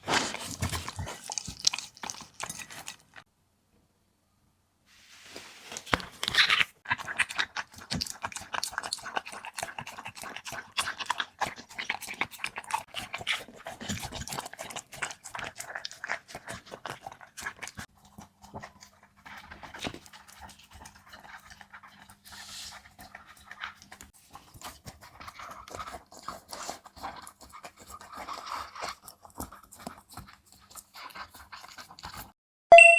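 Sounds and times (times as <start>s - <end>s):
dog chewing and licking: 0.0s - 3.2s, 6.2s - 32.3s.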